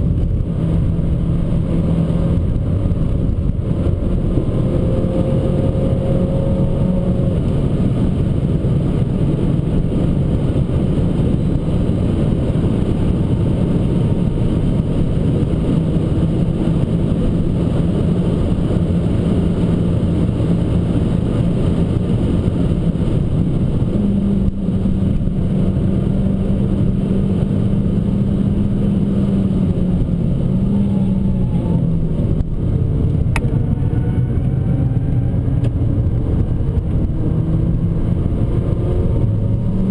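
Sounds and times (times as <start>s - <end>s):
car engine under load: 0.0s - 39.9s
tyre and road noise: 0.0s - 39.9s.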